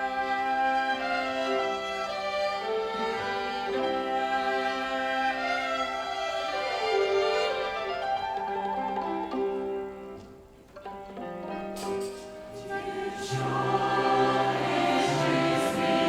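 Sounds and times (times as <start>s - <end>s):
violin ensemble playing: 0.0s - 16.0s.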